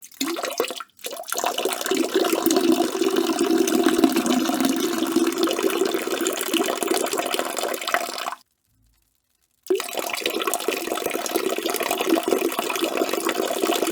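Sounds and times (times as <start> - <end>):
man urinating: 0.0 - 8.4, 9.7 - 13.9.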